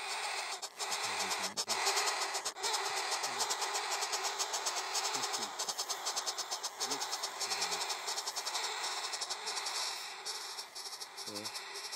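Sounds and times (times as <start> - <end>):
nestlings chittering begging calls: 0.0 - 11.9.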